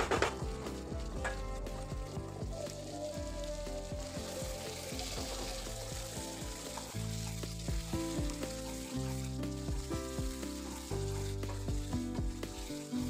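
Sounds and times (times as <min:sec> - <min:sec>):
curry sizzling in frying pan: 0:00.0 - 0:13.0
wooden spatula scraping pan: 0:00.0 - 0:13.0.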